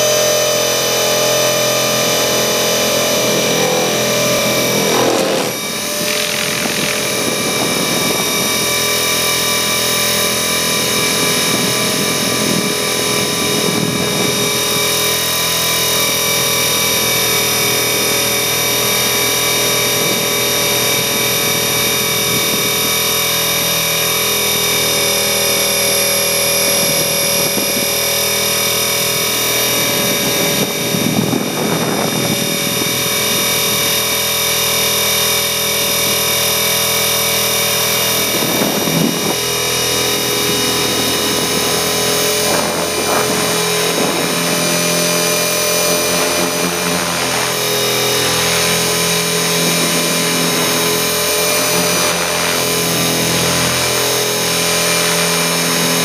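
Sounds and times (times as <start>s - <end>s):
helicopter rotor noise: 0.0s - 56.0s
helicopter whine: 0.0s - 56.0s.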